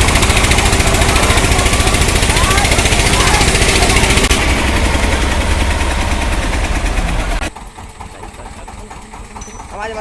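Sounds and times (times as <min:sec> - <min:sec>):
tractor diesel engine chugging: 0:00.0 - 0:10.0.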